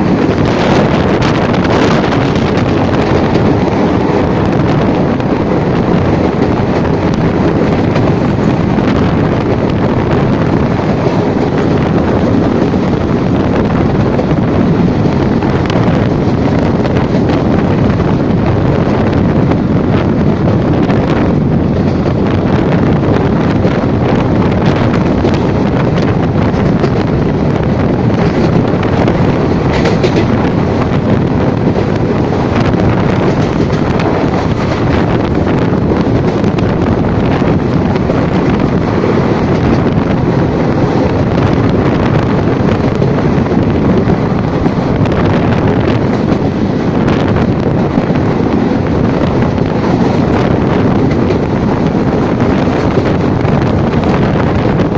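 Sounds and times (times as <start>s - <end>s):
moving train: 0.0s - 54.9s
wind noise on microphone: 0.0s - 54.9s.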